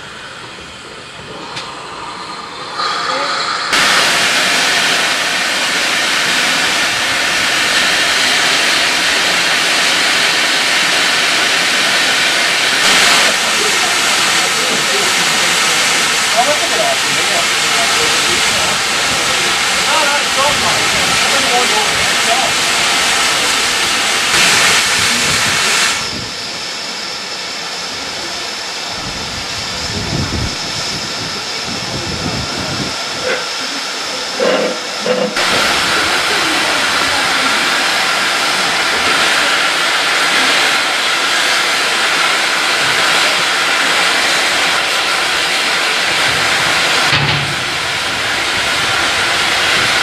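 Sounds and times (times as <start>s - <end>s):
steam hissing: 0.0s - 50.0s.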